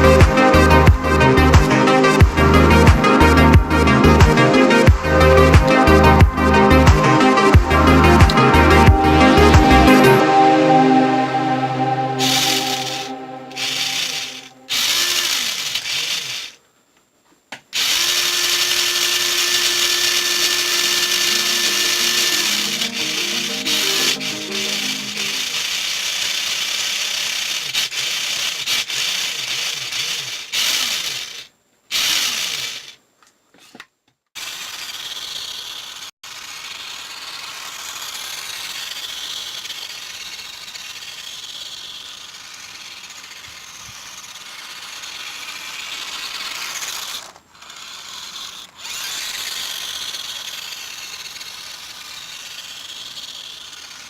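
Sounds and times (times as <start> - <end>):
toy car electric motor whining: 0.0 - 10.1, 12.2 - 16.6, 17.7 - 33.0, 34.4 - 54.0.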